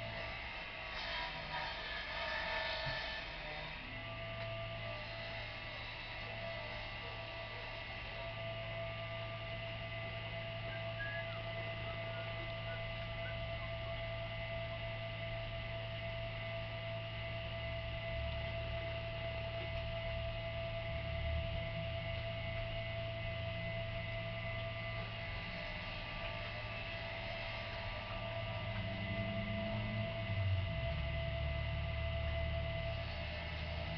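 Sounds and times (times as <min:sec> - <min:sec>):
steady multi-tone hum: 0:00.0 - 0:33.9.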